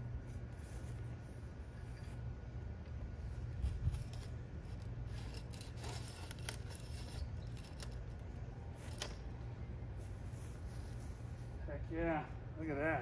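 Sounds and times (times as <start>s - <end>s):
low steady rumble: 0.0s - 13.0s
flagpole scrapes and clicks: 0.2s - 11.6s.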